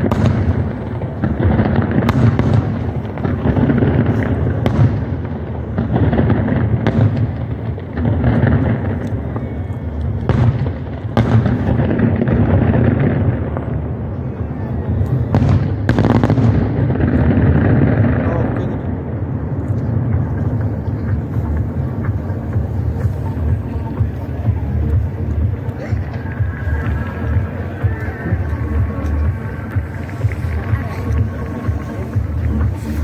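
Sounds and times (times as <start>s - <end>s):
sharp firework cracks: 0.0s - 14.0s, 14.9s - 33.0s
fireworks booming: 0.0s - 33.0s.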